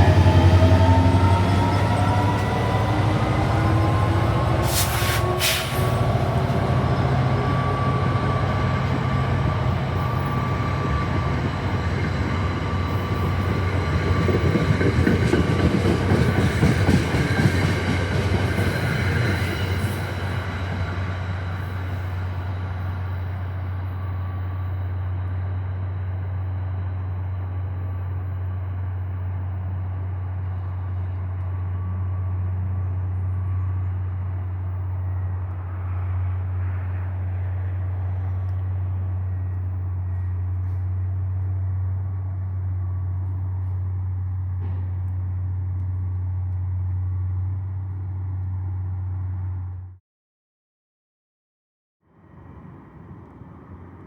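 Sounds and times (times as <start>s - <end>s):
train passing on rails: 0.0s - 49.9s, 52.1s - 54.0s.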